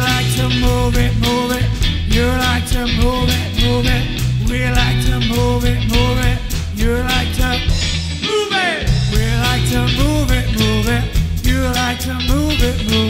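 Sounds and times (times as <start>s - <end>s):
live soul band playing: 0.0s - 13.0s.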